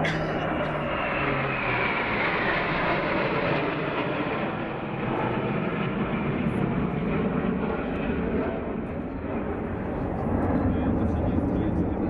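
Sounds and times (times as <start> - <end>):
jet fighters flying past: 0.0 - 12.0.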